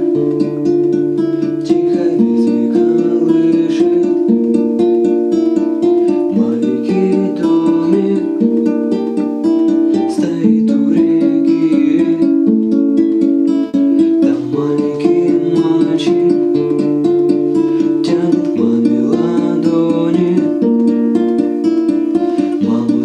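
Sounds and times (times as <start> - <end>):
acoustic guitar plucked chords: 0.0 - 23.0.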